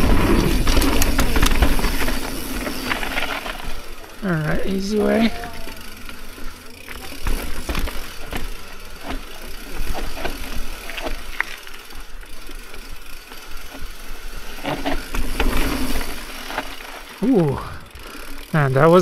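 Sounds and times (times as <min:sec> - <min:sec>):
bike chain and frame rattling: 0:00.0 - 0:19.0
bike tyres rolling on rock: 0:00.0 - 0:19.0.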